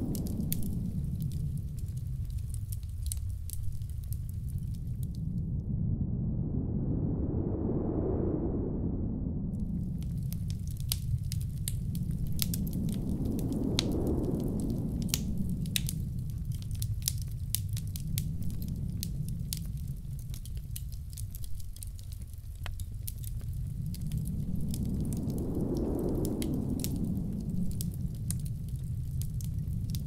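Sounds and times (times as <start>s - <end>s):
wood fire crackling and popping: 0.0s - 5.4s, 9.6s - 30.0s
blizzard wind rushing: 0.0s - 30.0s.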